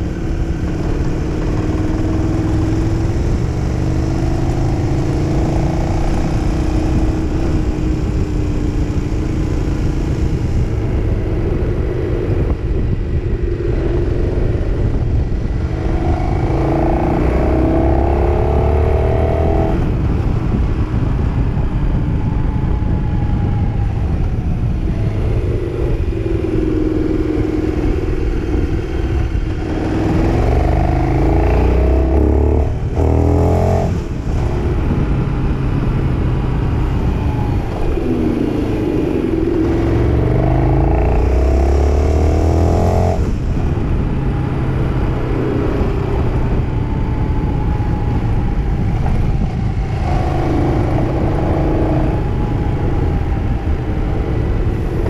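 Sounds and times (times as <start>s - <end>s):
motorcycle engine revving: 0.0s - 21.3s, 24.7s - 55.0s.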